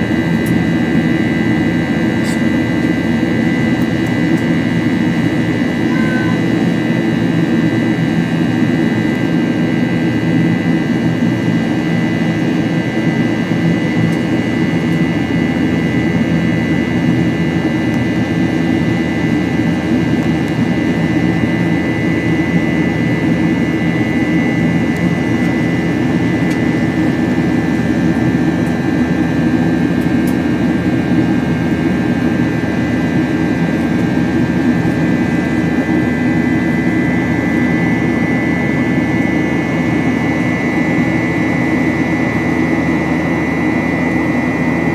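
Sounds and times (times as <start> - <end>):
high whining engine fan tones: 0.0 - 44.9
jet engine and airflow roar: 0.0 - 44.9.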